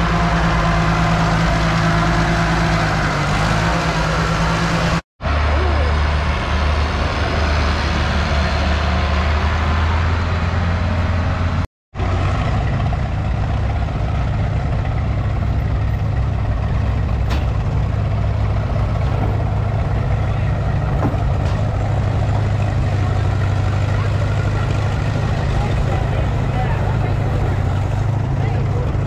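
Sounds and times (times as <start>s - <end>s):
tractor driving past: 0.0s - 29.0s
tractor engine running steadily: 0.0s - 29.0s.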